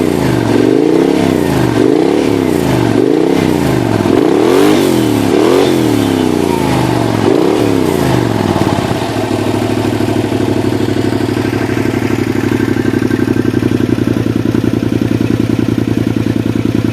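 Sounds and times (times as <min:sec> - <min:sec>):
motorcycle engine idling: 0:00.0 - 0:16.9
motorcycle engine revving: 0:00.0 - 0:16.9.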